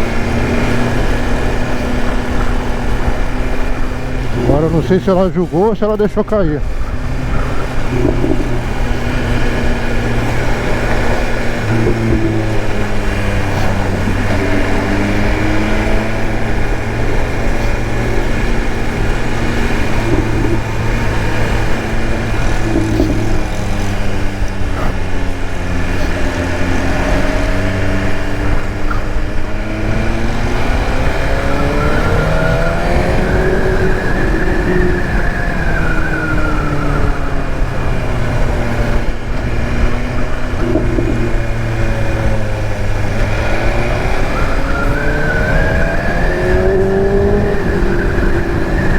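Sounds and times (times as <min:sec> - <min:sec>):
motorcycle engine revving: 0:00.0 - 0:48.9
road and traffic drone: 0:00.0 - 0:48.9.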